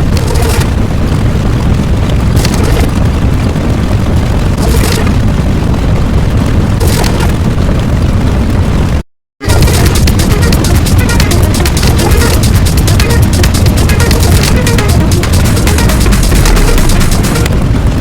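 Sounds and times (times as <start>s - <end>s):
deep rumble: 0.0s - 18.0s.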